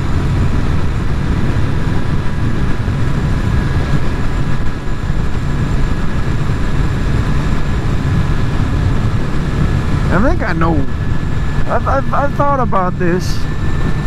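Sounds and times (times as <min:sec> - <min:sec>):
motorcycle engine cruising: 0:00.0 - 0:14.0
road noise: 0:00.0 - 0:14.0
wind noise: 0:00.0 - 0:14.0.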